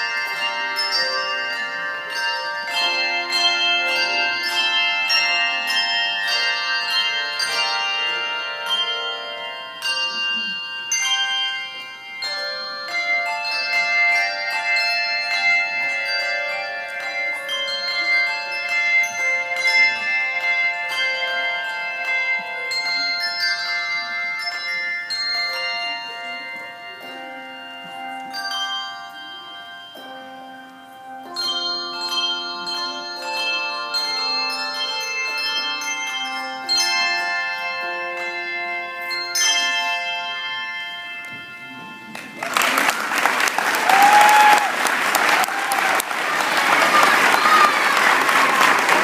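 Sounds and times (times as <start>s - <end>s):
handbell choir ringing chords: 0.0s - 49.0s.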